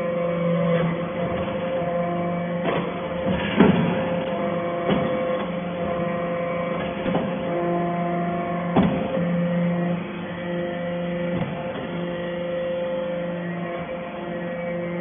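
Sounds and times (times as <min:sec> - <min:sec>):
hydraulic machine hum: 0:00.0 - 0:15.0.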